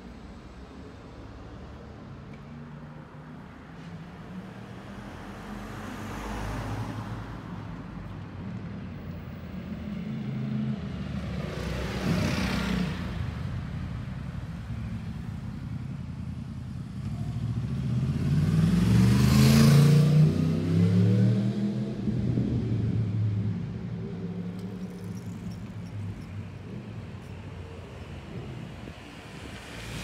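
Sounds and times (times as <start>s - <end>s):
cars driving past: 2.1s - 14.0s, 16.5s - 30.0s.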